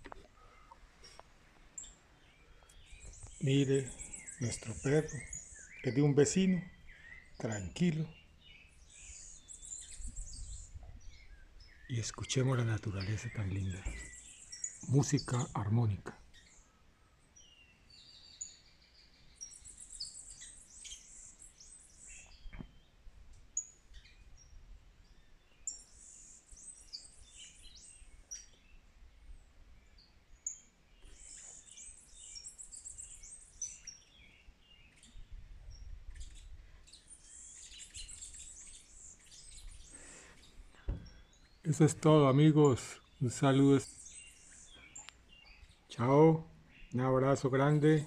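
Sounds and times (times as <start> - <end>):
birds chirping and singing: 0.0 - 48.0.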